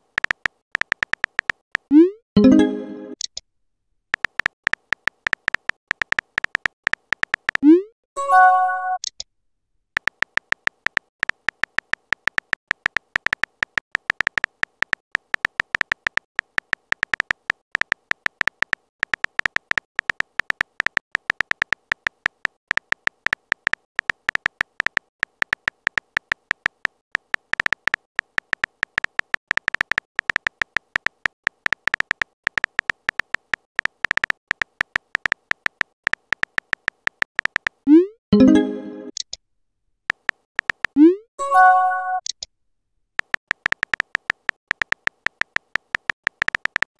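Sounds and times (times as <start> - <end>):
keystroke ticks: 0.0 - 2.1, 4.1 - 7.8, 10.0 - 37.8, 40.1 - 41.0, 43.2 - 46.9.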